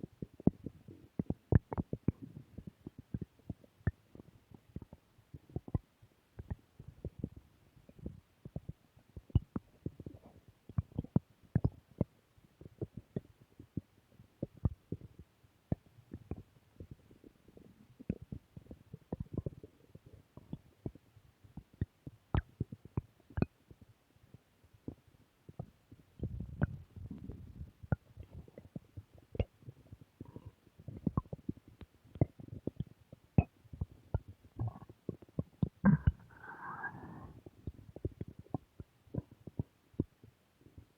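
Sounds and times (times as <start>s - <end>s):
stomach growling: 0.0s - 13.8s, 14.4s - 23.8s, 24.8s - 40.9s.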